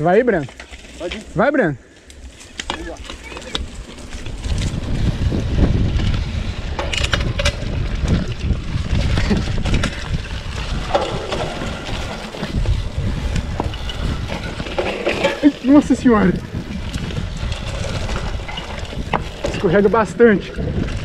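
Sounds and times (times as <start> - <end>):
bike clicking and rattling: 0.0 - 21.0
wind buffeting microphone: 1.8 - 21.0.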